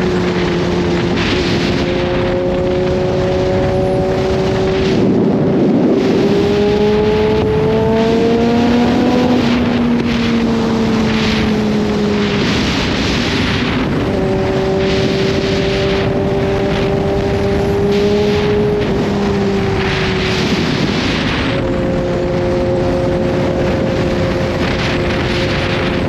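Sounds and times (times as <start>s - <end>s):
motorcycle engine accelerating: 0.0s - 26.0s
wind rush: 0.0s - 26.0s.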